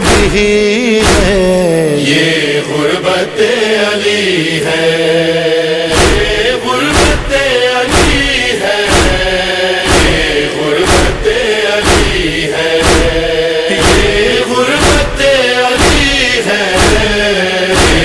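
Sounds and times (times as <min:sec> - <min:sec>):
chorus chanting: 0:00.0 - 0:18.0
rhythmic chest-beating thumps: 0:00.0 - 0:18.0.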